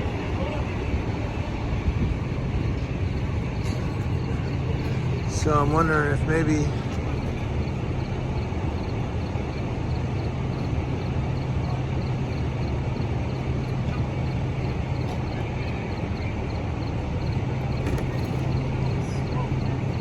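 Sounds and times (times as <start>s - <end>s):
vehicle engines idling: 0.0s - 20.0s.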